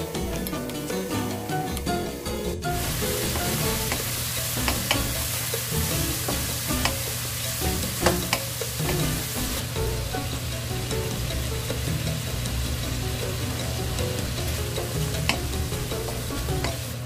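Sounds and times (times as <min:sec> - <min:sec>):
meat sizzling in oil: 0:02.7 - 0:17.0.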